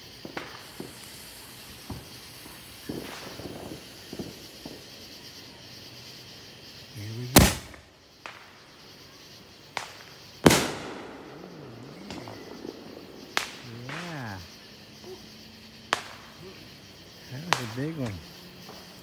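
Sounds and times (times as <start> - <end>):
firework bangs: 0.0 - 5.7, 7.2 - 9.0, 9.6 - 19.0.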